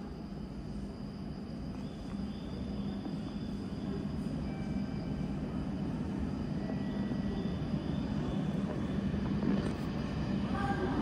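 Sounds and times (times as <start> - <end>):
approaching train low rumble: 0.0 - 11.0.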